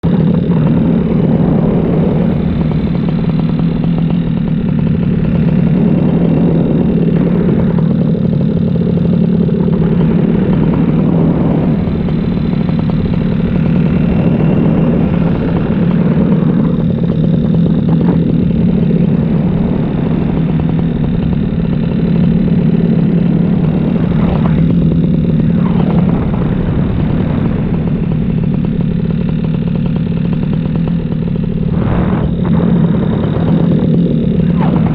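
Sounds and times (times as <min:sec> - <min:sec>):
paramotor engine and propeller drone: 0:00.0 - 0:34.9.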